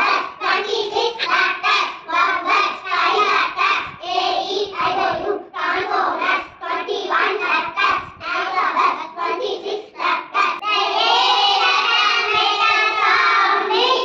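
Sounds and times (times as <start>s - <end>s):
children chanting rhythmically: 0.0s - 14.0s.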